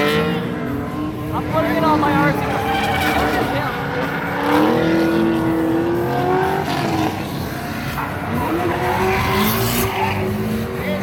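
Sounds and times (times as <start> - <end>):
car engine revving: 0.0 - 11.0
tires squealing: 0.0 - 11.0.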